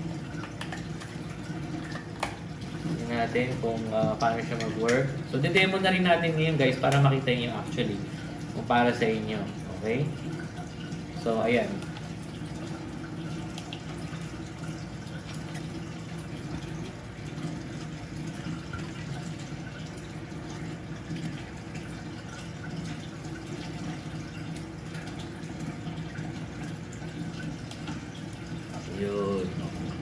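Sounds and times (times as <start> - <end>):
aquarium water trickling and bubbling: 0.0 - 30.0.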